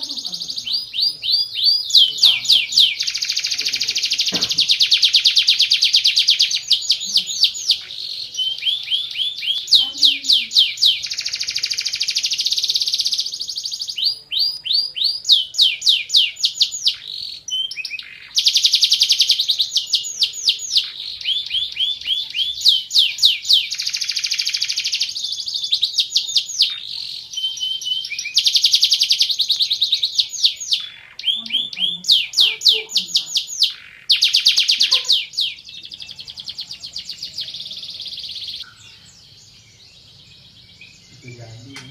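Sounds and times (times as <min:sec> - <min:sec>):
canary singing rapid trills: 0:00.0 - 0:41.9.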